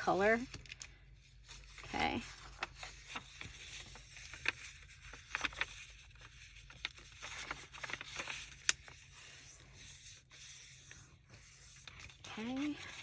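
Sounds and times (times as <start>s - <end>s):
paper rustling and scraping: 0.2s - 13.0s.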